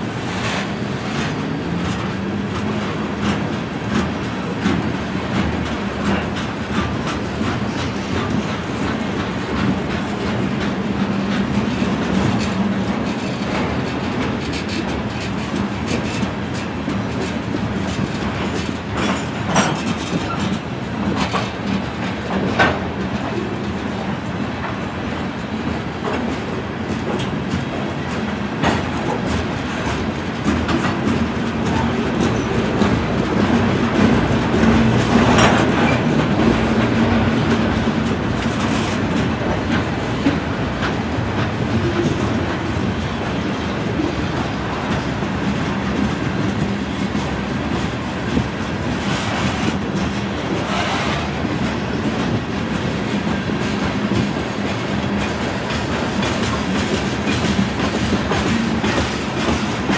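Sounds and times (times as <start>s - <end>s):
train wheels rumbling on rail: 0.0s - 59.9s
wheels clicking over rail joints: 0.2s - 59.9s.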